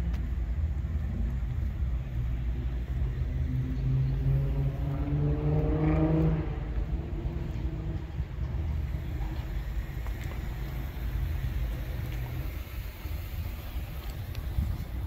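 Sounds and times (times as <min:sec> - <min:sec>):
traffic rumble: 0:00.0 - 0:15.0
car engine pulling away: 0:00.2 - 0:14.8.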